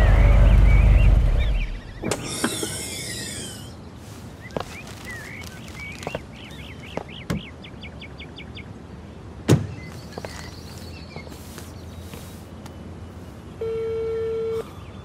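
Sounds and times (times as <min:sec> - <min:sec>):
birds chirping: 0:00.0 - 0:13.8, 0:14.5 - 0:15.0
outdoor ambience: 0:00.0 - 0:15.0.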